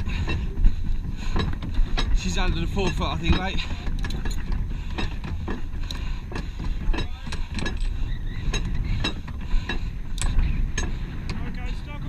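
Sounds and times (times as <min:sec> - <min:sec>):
knocks and clinks of gear: 0:00.0 - 0:12.0.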